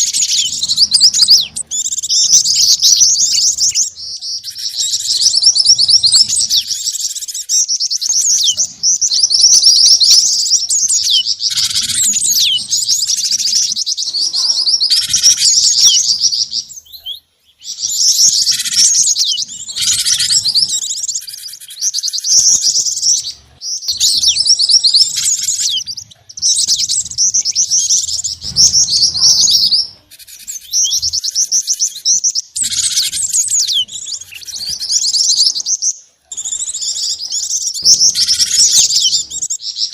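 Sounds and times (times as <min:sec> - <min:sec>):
rapid high bird chirping: 0:00.0 - 0:39.9.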